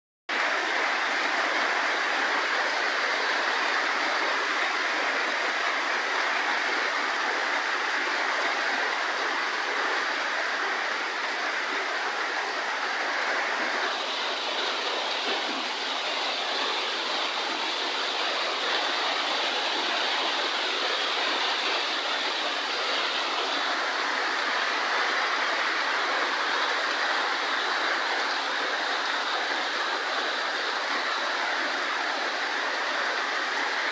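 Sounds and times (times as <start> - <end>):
heavy rain pouring: 0.3 - 33.9.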